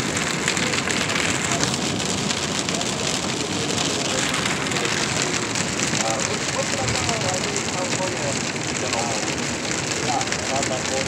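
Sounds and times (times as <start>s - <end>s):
rain tapping on car: 0.0s - 11.0s
wet tyre noise: 0.0s - 11.0s.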